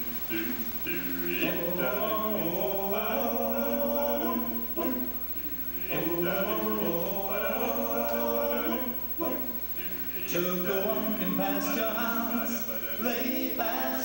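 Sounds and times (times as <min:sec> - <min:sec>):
male vocal quartet singing: 0:00.0 - 0:14.0.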